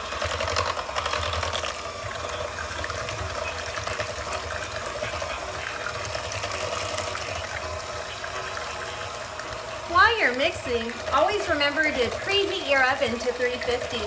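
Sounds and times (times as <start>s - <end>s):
electric hand mixer whirring: 0.0s - 14.0s.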